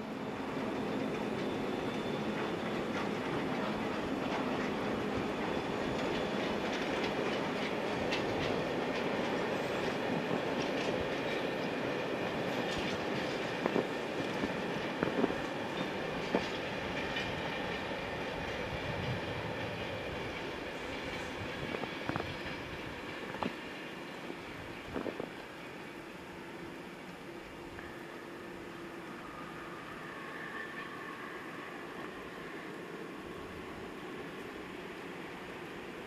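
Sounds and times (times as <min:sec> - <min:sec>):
rail clicks: 0:00.0 - 0:33.0
train wheels rumbling on rails: 0:00.0 - 0:36.0.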